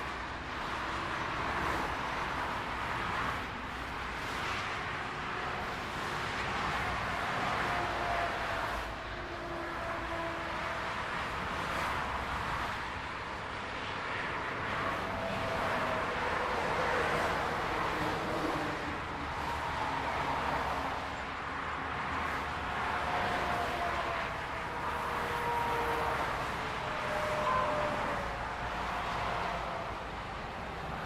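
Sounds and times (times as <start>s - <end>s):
highway traffic rushing: 0.0s - 31.0s.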